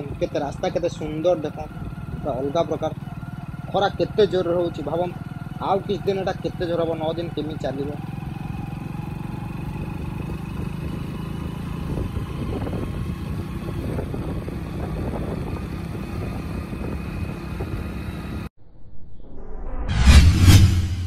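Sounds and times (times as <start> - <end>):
motorcycle engine running: 0.0 - 18.5
wind and road noise: 0.0 - 18.5.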